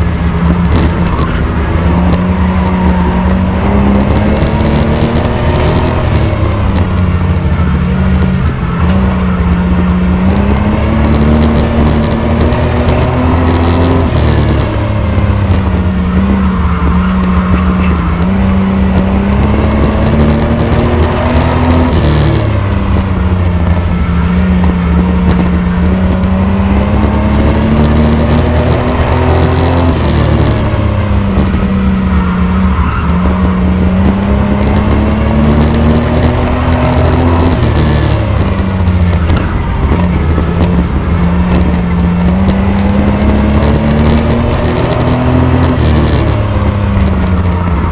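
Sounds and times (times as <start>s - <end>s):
race truck engine running hard: 0.0s - 47.9s.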